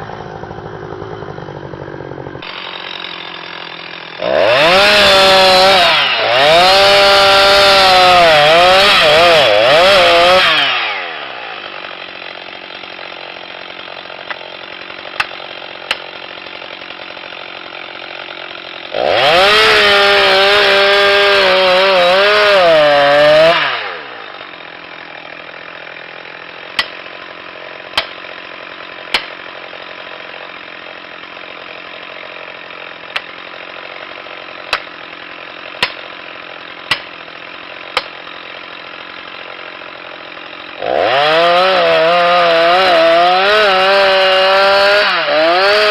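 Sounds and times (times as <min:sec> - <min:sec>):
chainsaw engine cutting and idling: 0:00.0 - 0:45.9.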